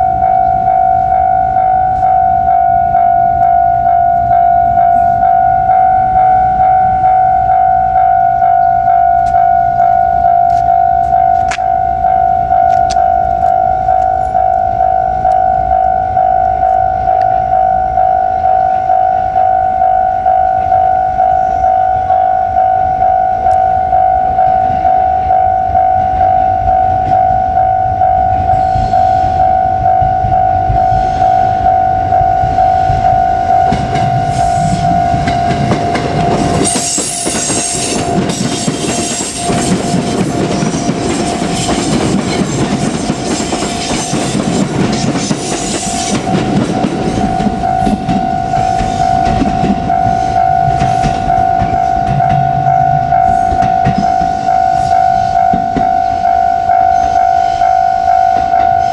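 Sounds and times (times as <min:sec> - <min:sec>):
electronic level crossing bell: 0:00.0 - 0:58.9
train wheels rumbling on rails: 0:00.0 - 0:58.9.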